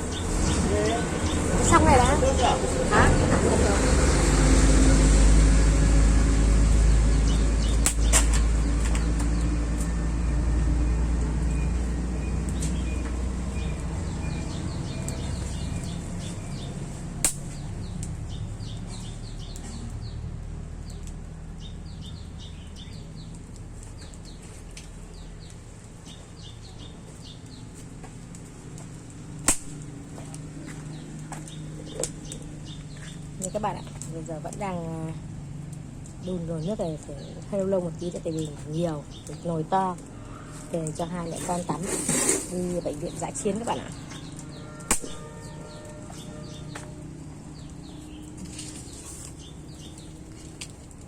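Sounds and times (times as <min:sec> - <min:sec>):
small birds chirping: 0:00.0 - 0:04.2, 0:06.7 - 0:09.9, 0:11.5 - 0:51.0
vehicle engine rumble: 0:00.0 - 0:51.0.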